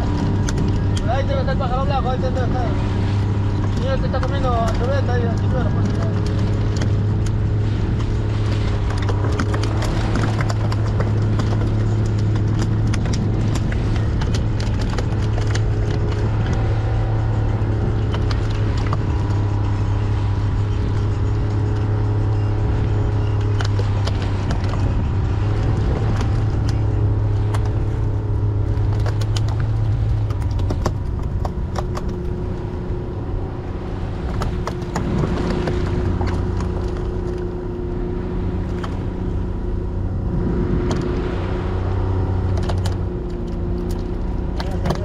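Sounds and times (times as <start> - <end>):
boat motor running: 0.0 - 45.0.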